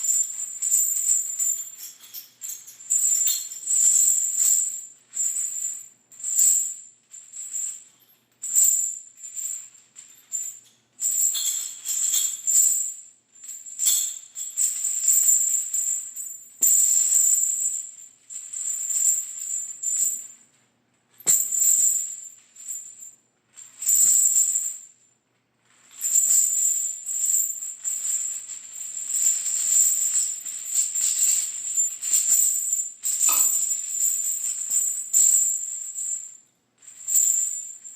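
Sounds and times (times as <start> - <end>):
metal chains rattling: 0.0 - 24.9, 25.6 - 37.9.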